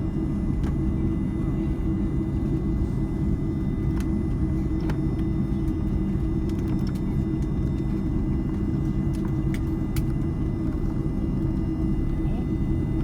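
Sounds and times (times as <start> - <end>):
aircraft engines idling: 0.0 - 13.0.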